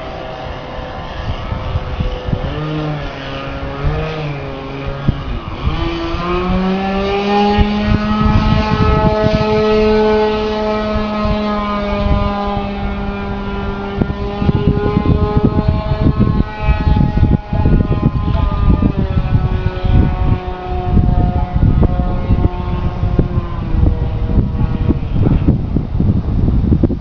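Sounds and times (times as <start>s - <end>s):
model airplane engine: 0.0s - 27.0s.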